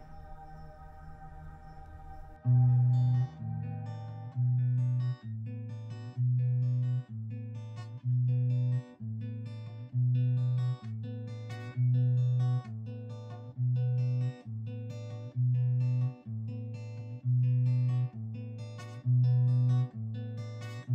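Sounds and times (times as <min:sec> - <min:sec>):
fingerpicked acoustic guitar: 0:02.4 - 0:20.9.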